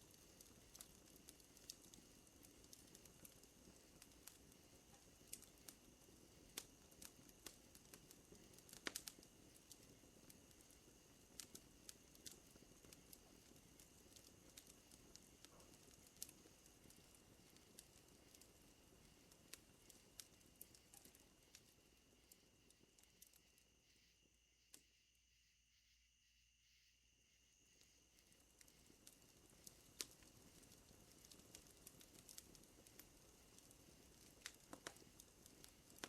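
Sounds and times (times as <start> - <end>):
fire crackling: 0.0 - 24.8, 27.6 - 36.0.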